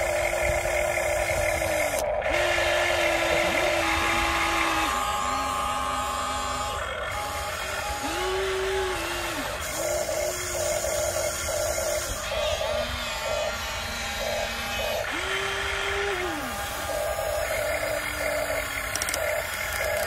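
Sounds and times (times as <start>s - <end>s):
electric motor whining: 0.0s - 20.0s
steady higher hum: 0.0s - 20.0s.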